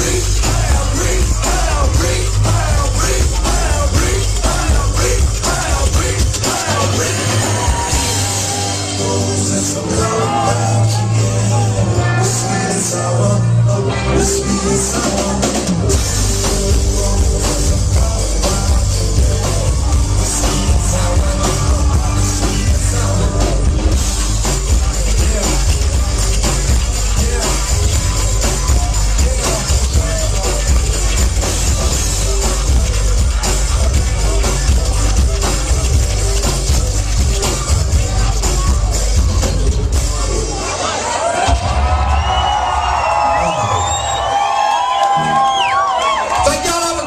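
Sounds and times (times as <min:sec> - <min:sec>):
live rock band playing: 0:00.0 - 0:47.0.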